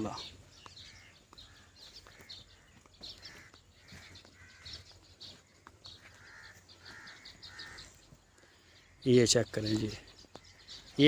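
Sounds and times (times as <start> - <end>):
high bird chirping: 0.0 - 11.0
short repeated bird calls: 0.0 - 11.0.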